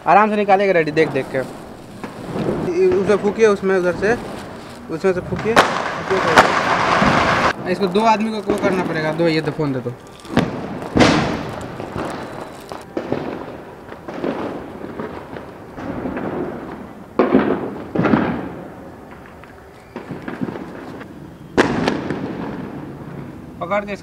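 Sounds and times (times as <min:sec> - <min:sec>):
firecrackers banging: 0:00.0 - 0:24.0.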